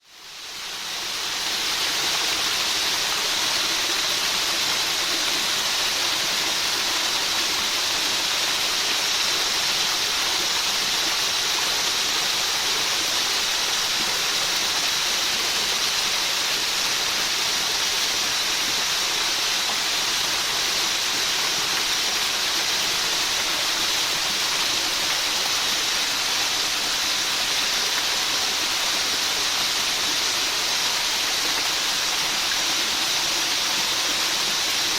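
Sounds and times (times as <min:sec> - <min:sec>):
heavy rain hissing: 0:00.1 - 0:34.9.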